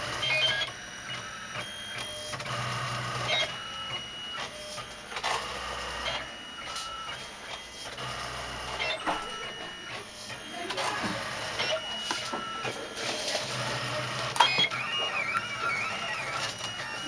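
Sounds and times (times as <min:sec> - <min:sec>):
printer stepper motors whining: 0:00.0 - 0:17.0.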